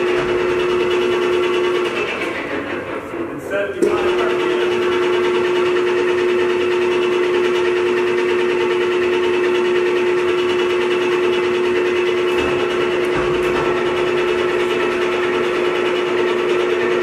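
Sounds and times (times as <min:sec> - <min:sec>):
lathe motor whining: 0:00.0 - 0:17.0.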